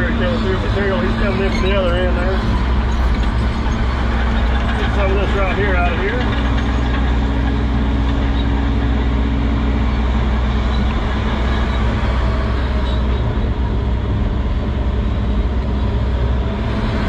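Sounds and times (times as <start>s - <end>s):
excavator diesel engine under load: 0.0s - 17.0s
hydraulics working: 0.0s - 17.0s.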